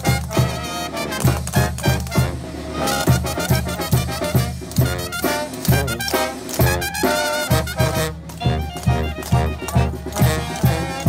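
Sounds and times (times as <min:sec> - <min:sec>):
brass band playing dance music: 0:00.0 - 0:11.0.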